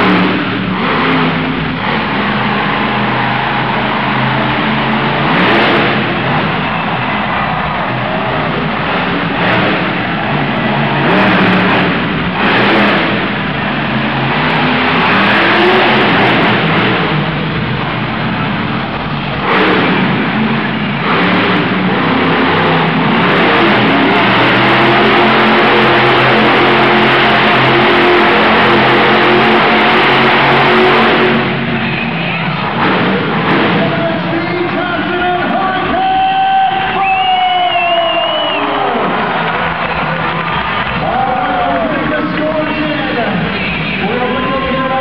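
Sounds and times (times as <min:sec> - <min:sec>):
truck engine revving hard: 0:00.0 - 0:45.0.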